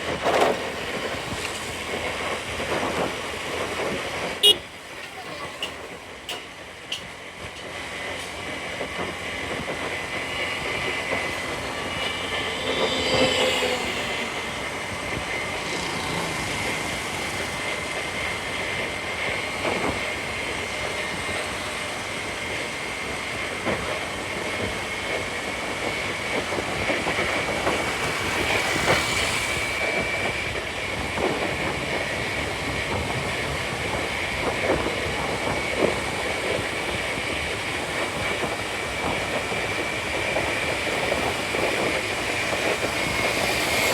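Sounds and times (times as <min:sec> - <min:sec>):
wind noise: 0:00.0 - 0:04.7, 0:07.0 - 0:43.9
road noise: 0:00.0 - 0:43.9
scooter engine: 0:00.0 - 0:43.9.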